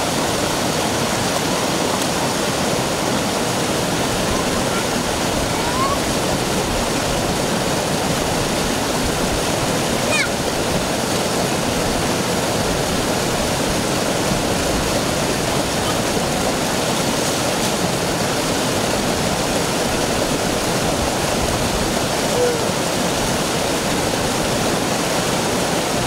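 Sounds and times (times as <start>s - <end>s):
stream rushing over rock: 0.0s - 26.0s.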